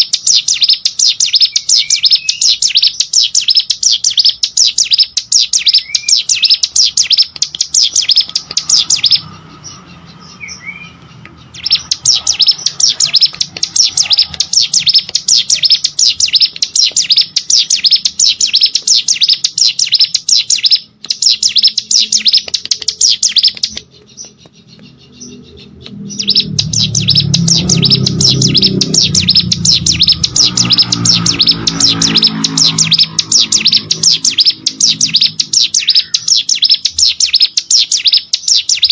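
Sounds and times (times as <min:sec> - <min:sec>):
bird singing rapid high chirps: 0:00.0 - 0:38.9.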